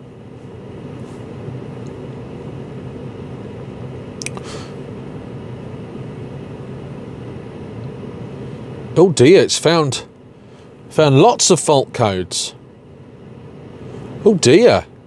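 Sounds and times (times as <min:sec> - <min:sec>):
car cabin mechanical hum: 0:00.0 - 0:15.0.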